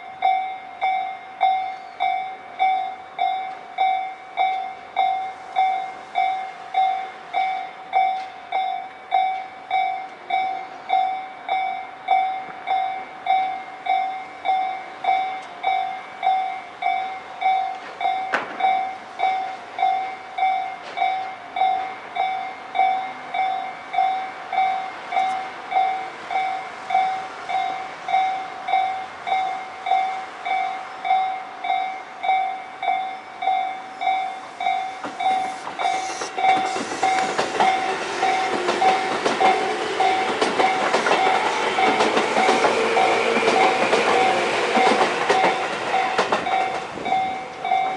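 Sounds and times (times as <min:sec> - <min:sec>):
approaching train rush: 0:00.0 - 0:47.9
level crossing warning bell: 0:00.0 - 0:47.9.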